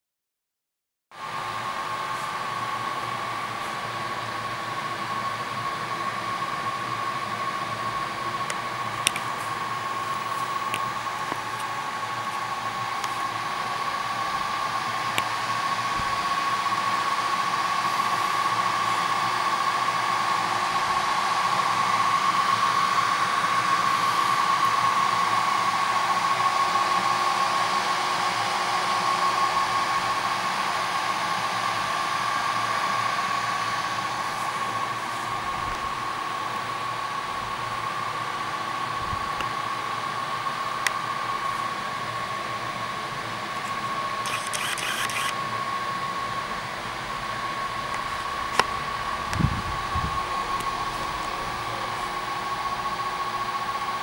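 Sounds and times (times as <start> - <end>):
cooling fans whirring: 1.2 - 54.0.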